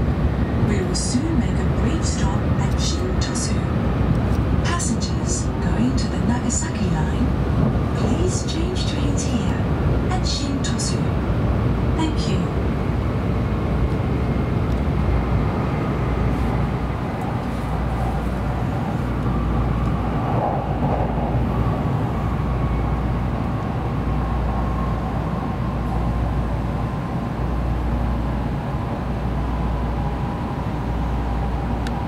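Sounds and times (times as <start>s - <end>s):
train cabin rumble: 0.0s - 32.0s.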